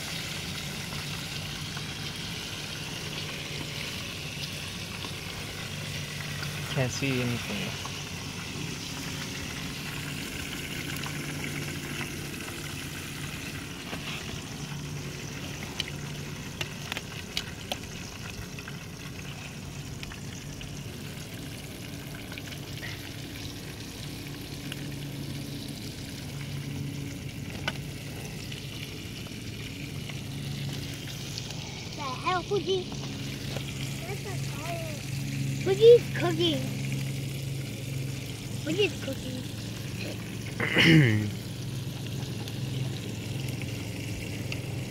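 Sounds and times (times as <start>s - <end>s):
fish sizzling in hot oil: 0.0s - 44.9s.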